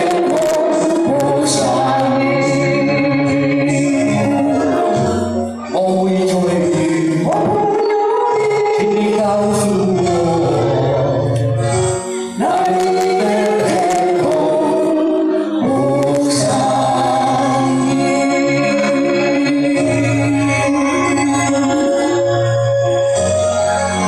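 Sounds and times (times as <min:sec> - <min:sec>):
man and woman singing duet: 0:00.0 - 0:11.6, 0:12.3 - 0:24.0
karaoke backing track: 0:00.0 - 0:24.0.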